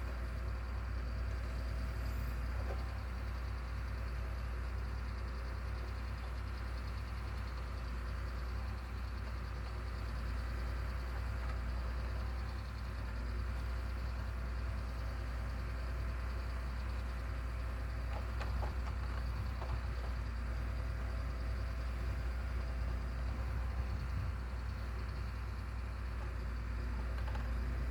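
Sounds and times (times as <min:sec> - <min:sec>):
engine low rumble: 0:00.0 - 0:27.9.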